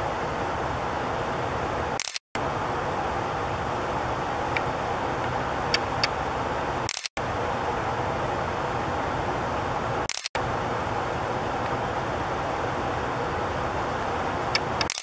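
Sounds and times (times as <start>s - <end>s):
outdoor hiss and rumble: 0.0s - 15.0s.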